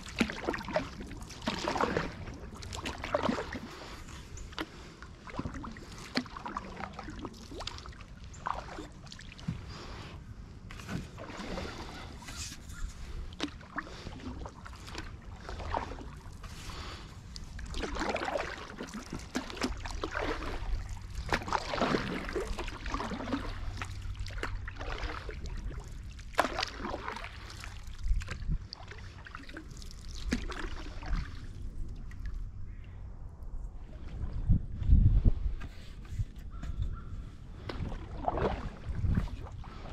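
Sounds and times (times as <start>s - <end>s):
paddle swishing through water: 0.0s - 32.4s, 33.8s - 39.9s.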